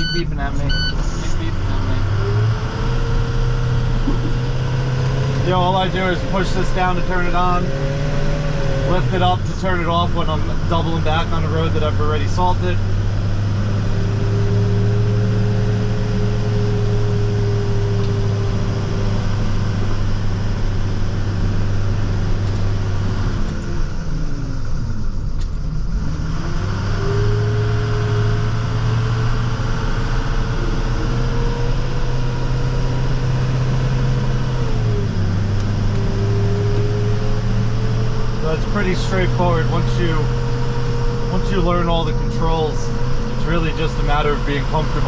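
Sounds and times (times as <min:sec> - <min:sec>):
truck engine droning with whine: 0:00.0 - 0:45.0.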